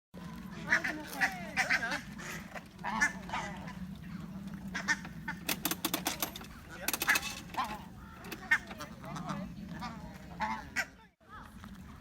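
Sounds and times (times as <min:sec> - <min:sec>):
ducks quacking: 0:00.5 - 0:05.6, 0:06.6 - 0:11.1.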